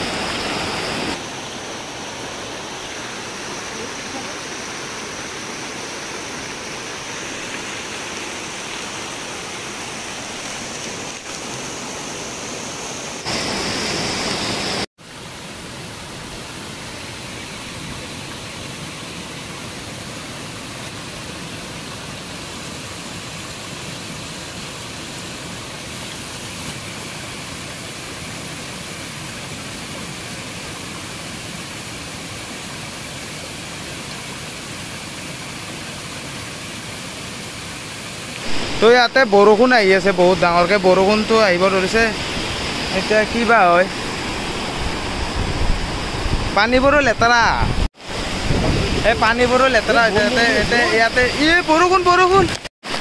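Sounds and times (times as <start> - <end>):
heavy rain hissing: 0.0 - 29.0, 31.4 - 53.0
rushing water: 0.0 - 53.0.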